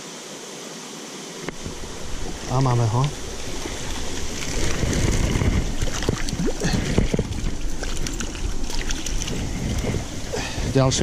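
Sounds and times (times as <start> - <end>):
stream rushing: 1.4 - 11.0
water splashing: 1.4 - 11.0.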